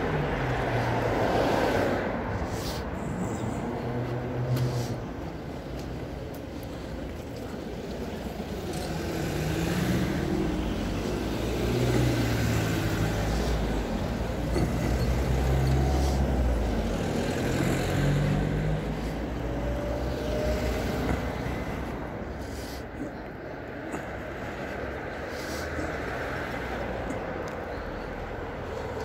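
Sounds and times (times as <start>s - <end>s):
cars driving past: 0.0s - 29.0s.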